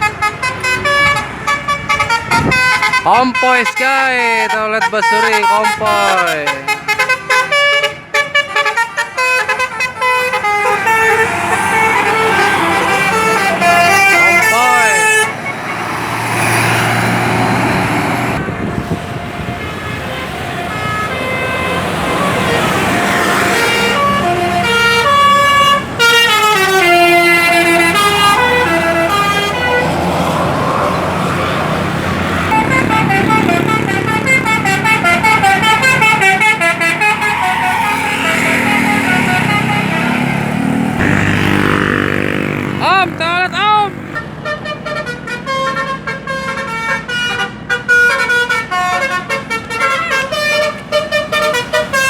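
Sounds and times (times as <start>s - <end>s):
bus passing by: 0.0s - 3.8s, 5.7s - 52.0s
road noise: 0.0s - 52.0s.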